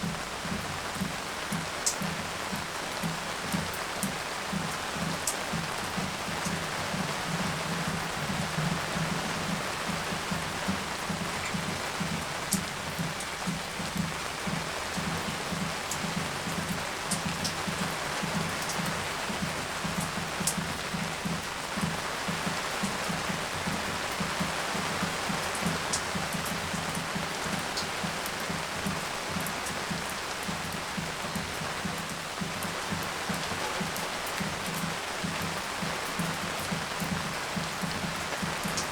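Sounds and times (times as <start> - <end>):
hiss of falling rain: 0.0 - 38.9
raindrops pattering on surfaces: 0.0 - 38.9.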